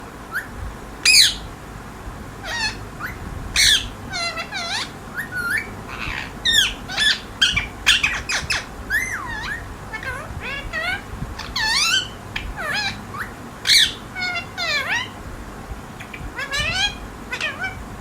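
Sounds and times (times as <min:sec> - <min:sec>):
parrot squawking and whistling: 0:00.3 - 0:01.5, 0:02.4 - 0:15.1, 0:16.0 - 0:17.8.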